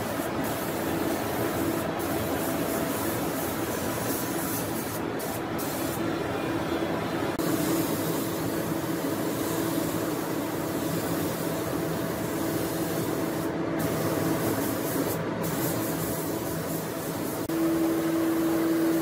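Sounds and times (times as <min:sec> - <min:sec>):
spray gun hissing: 0:00.0 - 0:06.1, 0:07.4 - 0:19.0.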